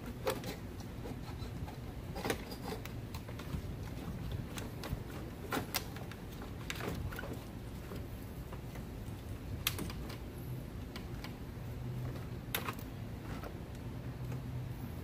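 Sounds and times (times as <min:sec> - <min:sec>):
light clicks and knocks of hand work: 0:00.0 - 0:14.7
steady low hum: 0:00.0 - 0:15.0.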